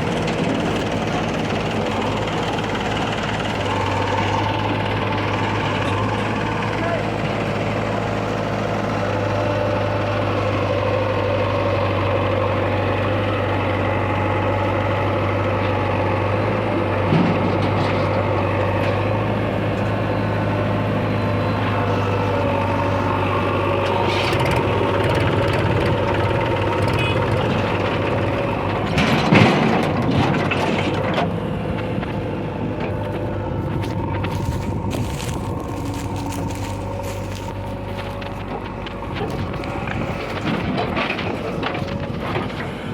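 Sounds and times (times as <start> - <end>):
diesel machinery engine running: 0.0 - 42.9.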